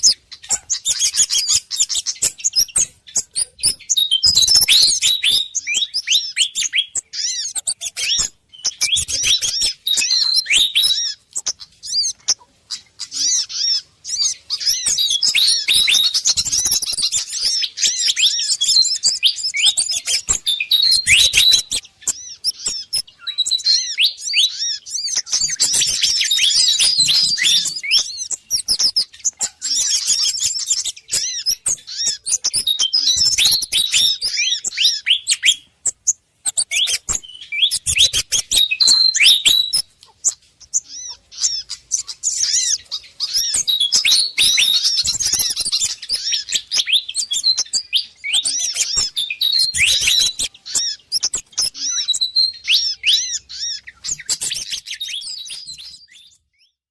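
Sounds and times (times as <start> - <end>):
small birds chirping and twittering: 0.0 - 56.9.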